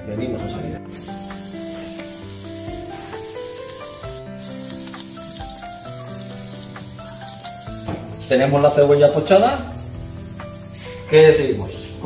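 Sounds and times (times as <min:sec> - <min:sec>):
slow background music: 0:00.0 - 0:12.0
onion sizzling in oil: 0:00.9 - 0:12.0.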